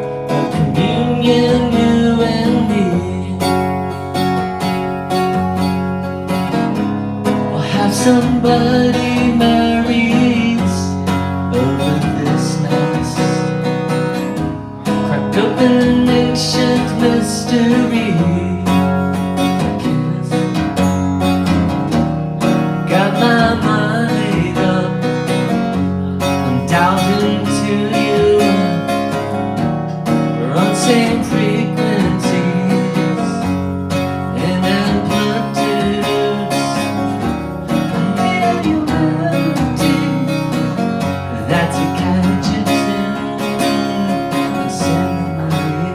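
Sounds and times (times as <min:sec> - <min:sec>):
bass line: 0:00.0 - 0:45.9
strummed acoustic guitar: 0:00.0 - 0:45.9.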